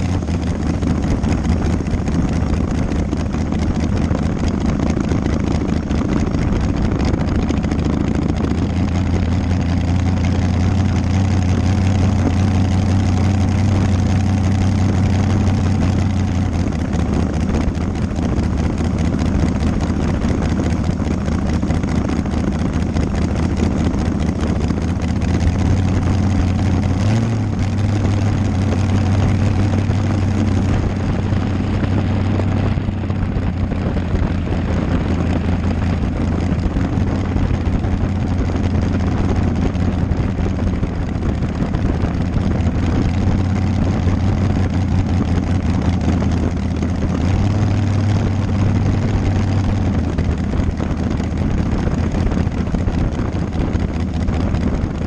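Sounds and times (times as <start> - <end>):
dragster engine droning: 0.0 - 55.0.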